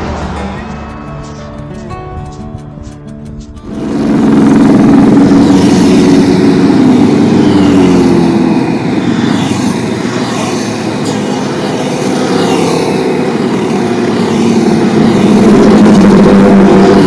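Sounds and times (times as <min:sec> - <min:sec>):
motor vehicle passing: 0:00.0 - 0:17.0.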